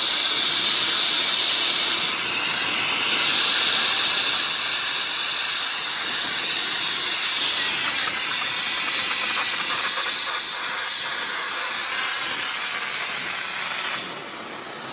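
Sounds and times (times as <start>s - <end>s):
torch flame hissing: 0.0s - 14.9s.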